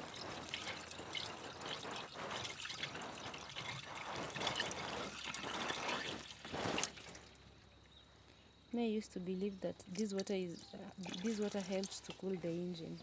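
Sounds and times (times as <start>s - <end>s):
water pouring and trickling: 0.0s - 7.9s, 9.8s - 13.0s.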